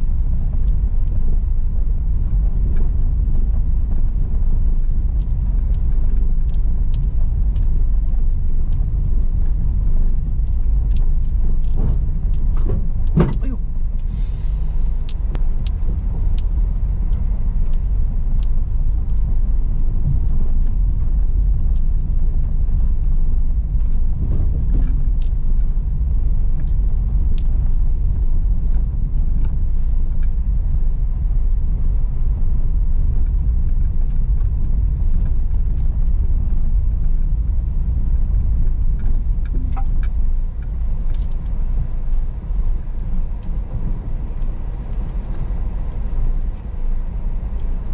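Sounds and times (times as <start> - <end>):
car tyres and engine rumble: 0.0 - 47.9.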